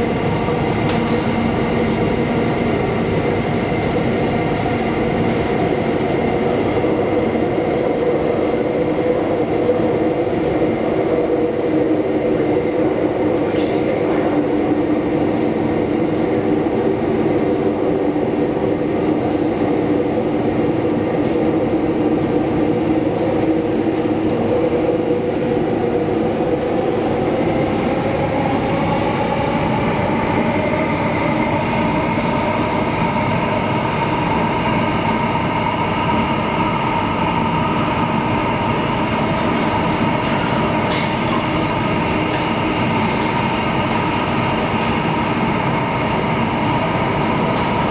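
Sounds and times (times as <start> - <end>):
train rolling noise: 0.0 - 47.9.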